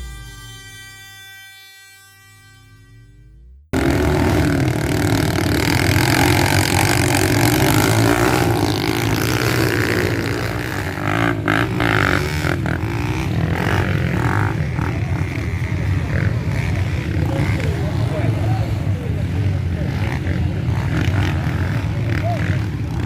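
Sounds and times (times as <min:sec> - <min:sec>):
motorcycle engines revving: 0:03.4 - 0:23.0.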